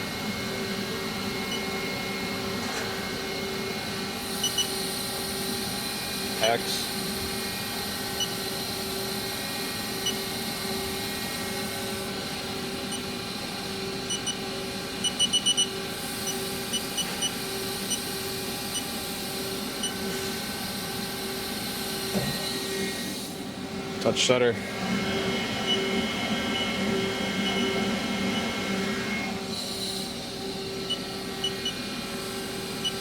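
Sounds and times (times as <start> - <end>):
lathe running with steady hum: 0.0 - 33.0.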